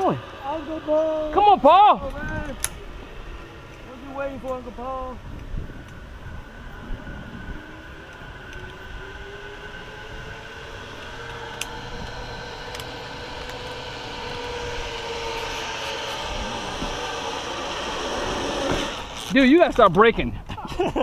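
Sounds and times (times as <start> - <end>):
zipline pulleys rolling on cable: 0.0 - 20.2.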